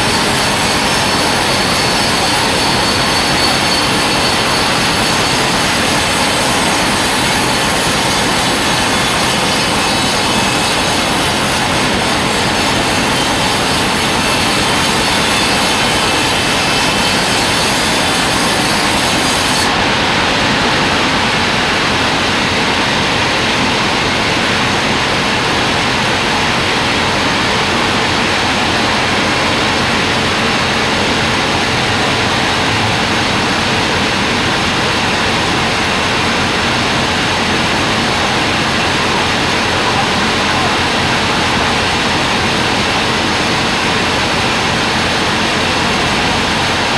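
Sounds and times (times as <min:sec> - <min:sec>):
band sawmill sawing timber: 0:00.0 - 0:46.9.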